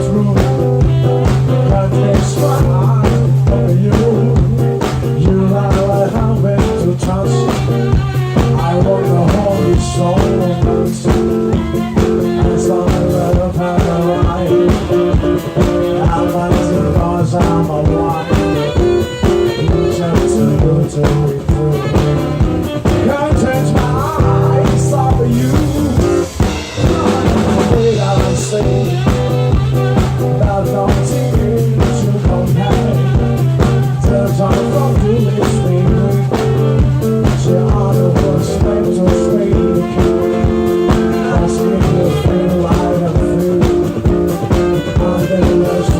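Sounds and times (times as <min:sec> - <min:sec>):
instrumental band music: 0:00.0 - 0:45.9.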